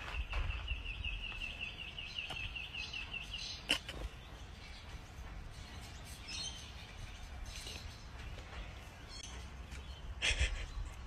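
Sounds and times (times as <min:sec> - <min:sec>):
bird chirping: 0:00.0 - 0:11.0
low outdoor rumble: 0:00.0 - 0:11.0.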